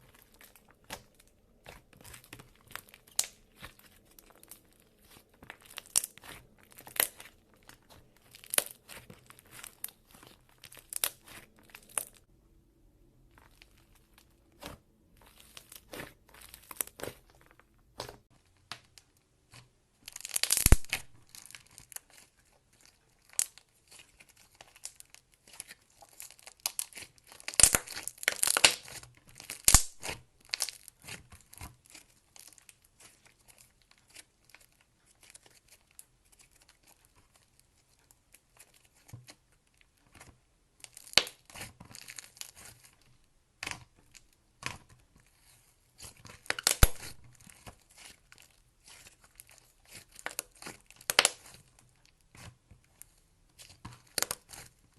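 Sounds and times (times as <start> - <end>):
slime crackling and popping: 0.0 - 12.3, 13.3 - 54.9.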